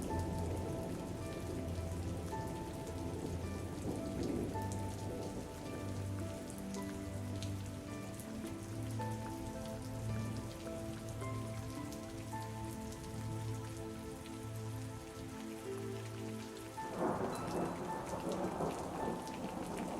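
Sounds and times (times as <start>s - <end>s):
soft music with held notes: 0.0s - 19.9s
steady rain: 0.0s - 19.9s.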